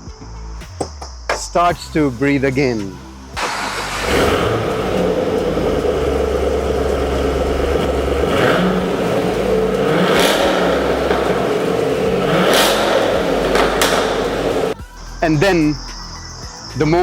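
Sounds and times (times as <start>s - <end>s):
pickup engine revving: 0.7s - 17.0s.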